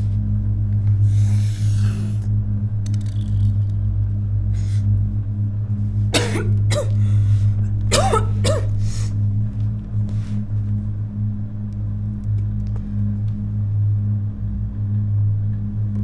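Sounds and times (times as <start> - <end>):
low music drone: 0.0 - 16.0.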